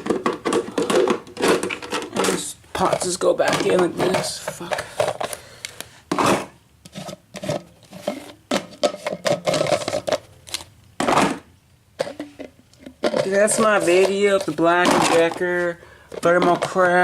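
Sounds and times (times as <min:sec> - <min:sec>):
plastic parts clicking and knocking: 0:00.0 - 0:17.0.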